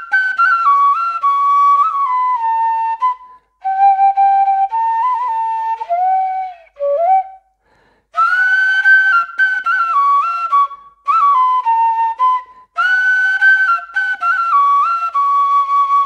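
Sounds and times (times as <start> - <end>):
bamboo flute melody: 0.0 - 7.5, 8.1 - 16.0.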